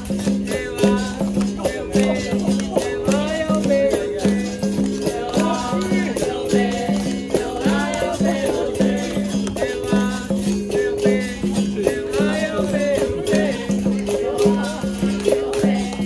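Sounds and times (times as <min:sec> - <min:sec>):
berimbau plucking a rhythm: 0:00.0 - 0:16.0
call-and-response singing: 0:00.0 - 0:16.0.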